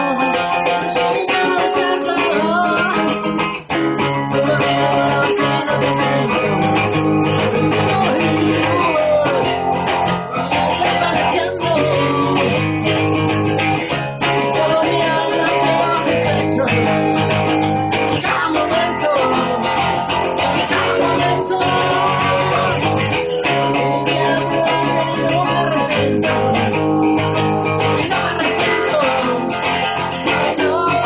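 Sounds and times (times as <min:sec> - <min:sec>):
guitar music with bass: 0:00.0 - 0:31.0.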